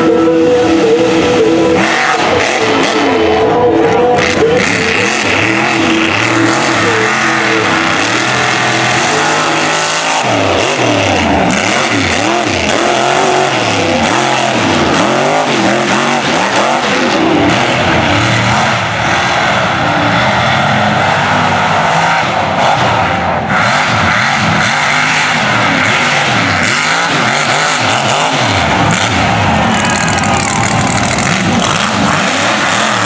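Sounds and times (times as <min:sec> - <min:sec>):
truck engines revving hard: 0:00.0 - 0:33.0.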